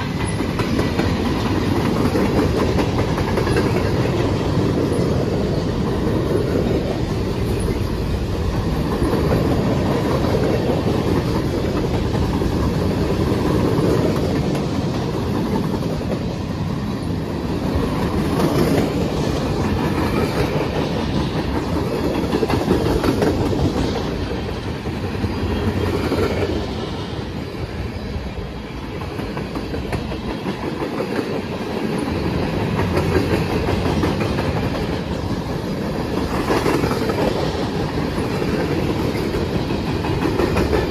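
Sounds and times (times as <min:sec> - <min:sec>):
wheels clicking over rail joints: 0:00.0 - 0:26.6, 0:28.9 - 0:40.9
train wheels rumbling on rails: 0:00.0 - 0:40.9.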